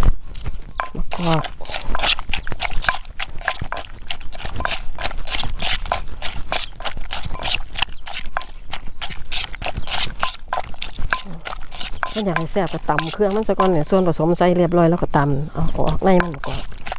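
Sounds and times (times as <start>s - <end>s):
pestle pounding in a mortar: 0.6s - 15.1s, 15.7s - 16.9s.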